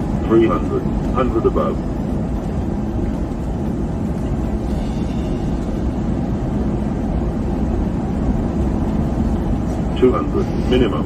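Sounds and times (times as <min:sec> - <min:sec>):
aircraft engine rumble: 0:00.0 - 0:11.0
airflow in cockpit: 0:00.0 - 0:11.0.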